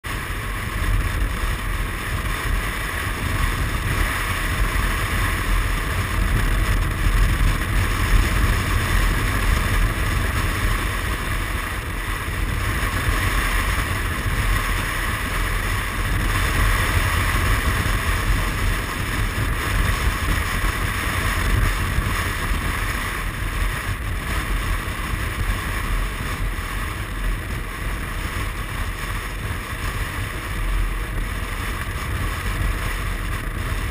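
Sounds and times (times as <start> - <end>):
scooter engine: 0.0 - 33.9
wind buffeting microphone: 0.0 - 33.9.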